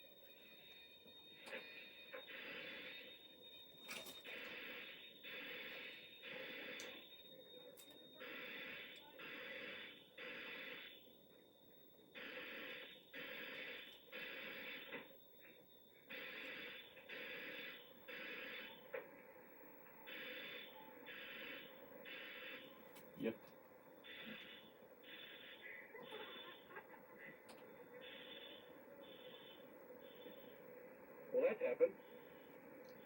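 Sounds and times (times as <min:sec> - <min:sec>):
fire alarm horn blasts: 0:00.0 - 0:19.0, 0:20.0 - 0:23.4, 0:24.0 - 0:26.7, 0:27.9 - 0:30.9.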